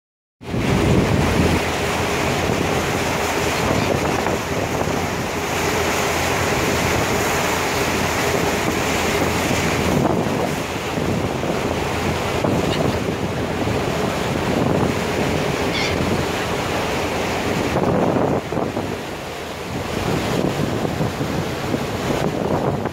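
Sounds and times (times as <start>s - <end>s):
low boat engine rumble: 0.4s - 22.9s
splashing boat wake: 0.4s - 22.9s
wind buffeting microphone: 0.4s - 22.9s.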